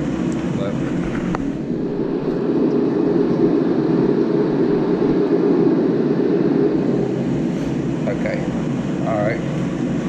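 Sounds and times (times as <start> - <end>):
heater low rumble: 0.0 - 10.0.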